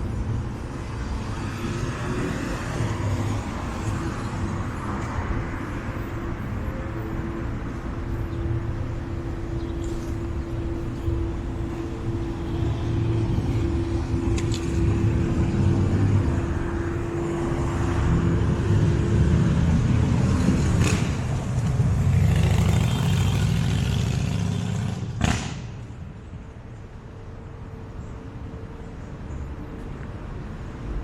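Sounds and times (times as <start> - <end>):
vehicle engines rumbling: 0.0 - 31.0.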